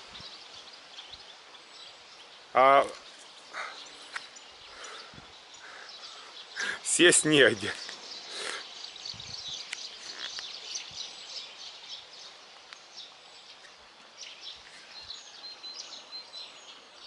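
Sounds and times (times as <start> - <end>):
outdoor background hiss: 0.0 - 17.0
songbirds chirping: 0.0 - 17.0.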